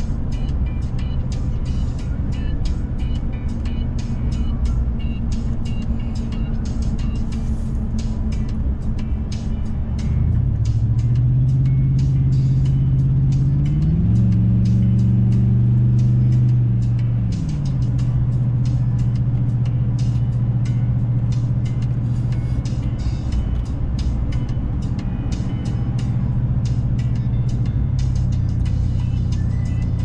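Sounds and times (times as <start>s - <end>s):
car engine and exhaust droning: 0.0s - 30.0s.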